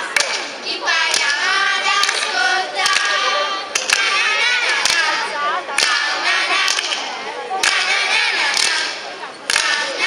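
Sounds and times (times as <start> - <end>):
children's choir singing: 0.0 - 10.0
hand claps: 0.1 - 5.2, 5.8 - 10.0.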